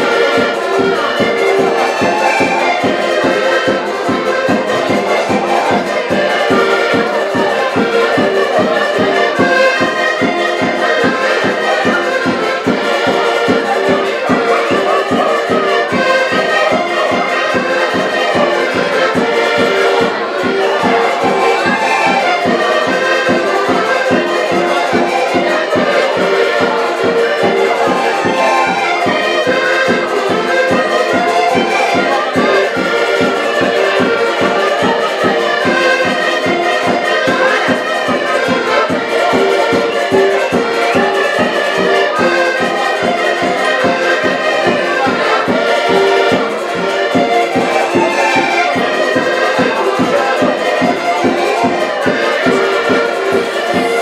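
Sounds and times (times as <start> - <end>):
button accordions playing folk music: 0.0 - 54.0.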